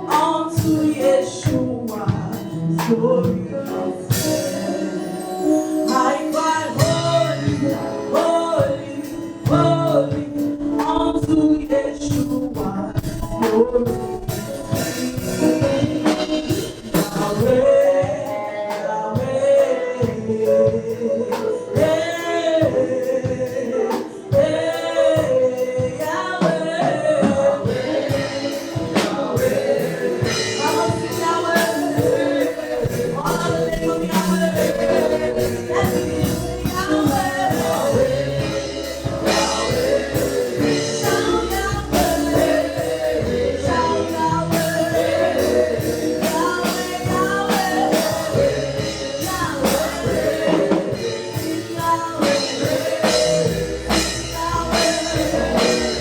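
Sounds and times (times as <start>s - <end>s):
gospel choir singing: 0.0s - 56.0s
instruments with drum beat: 0.0s - 56.0s.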